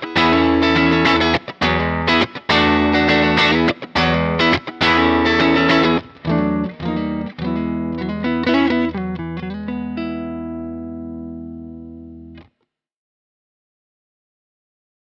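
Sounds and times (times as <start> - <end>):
electric guitar chords and notes: 0.0 - 12.5.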